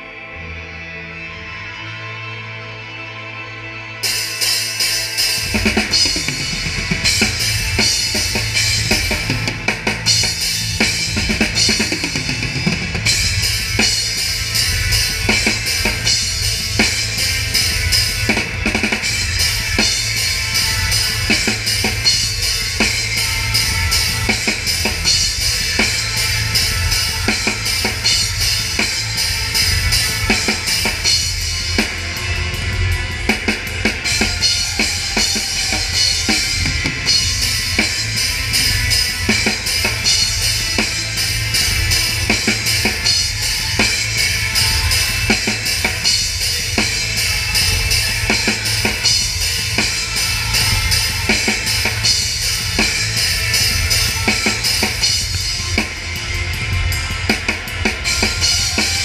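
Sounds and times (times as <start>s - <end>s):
snare and cymbals: 4.0s - 32.6s, 33.3s - 59.0s
metal band playing: 4.0s - 59.0s.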